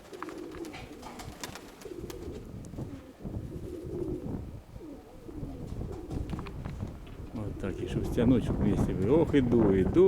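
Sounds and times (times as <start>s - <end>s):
pigeons cooing: 0.0s - 8.3s
wind on microphone: 0.4s - 10.0s.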